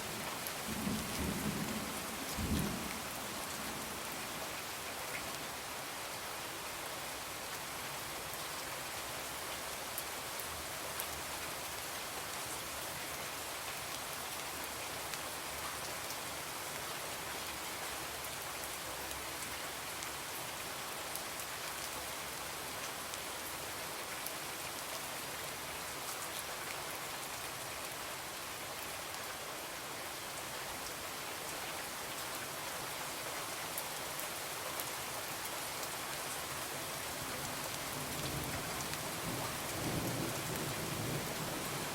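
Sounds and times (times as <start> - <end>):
rain on a window: 0.0 - 41.9.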